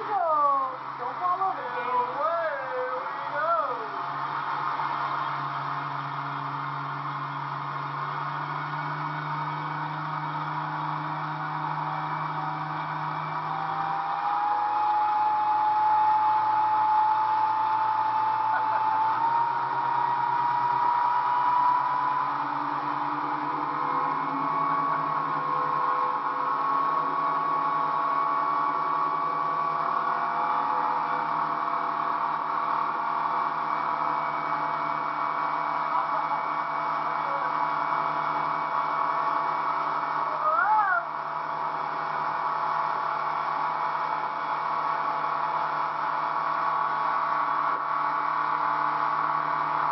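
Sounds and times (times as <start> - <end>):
rising and falling tone: 0.0 - 45.6
motorboat engine running: 0.0 - 49.9.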